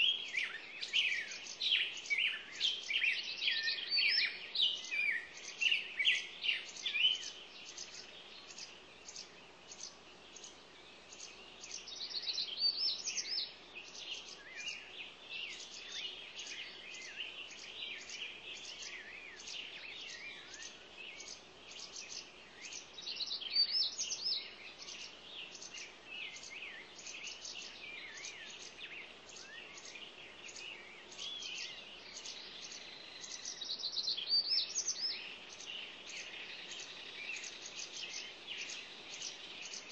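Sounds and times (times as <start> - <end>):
small birds chirping and warbling: 0.0 - 39.9.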